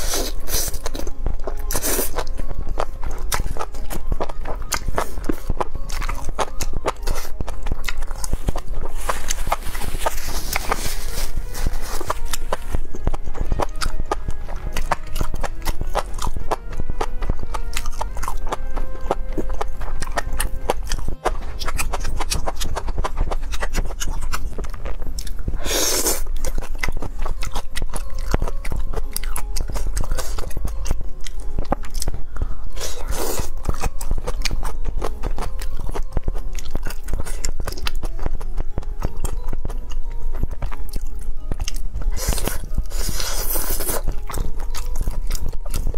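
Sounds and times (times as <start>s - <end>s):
chewing and biting food: 0.0s - 45.9s.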